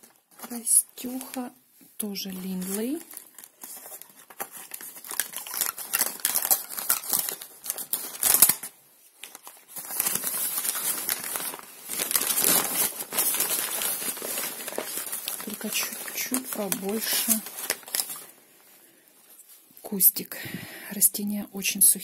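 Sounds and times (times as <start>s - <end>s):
packing paper crinkling: 0.0s - 19.8s.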